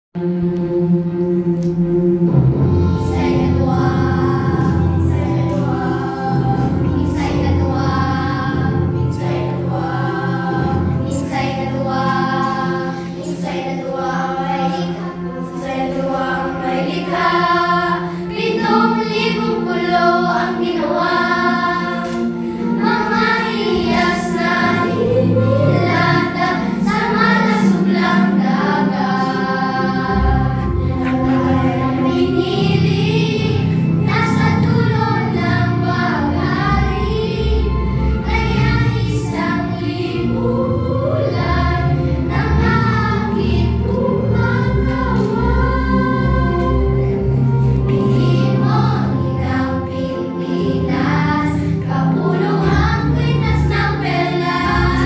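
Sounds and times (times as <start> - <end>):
children's choir singing: 0.2 - 55.0.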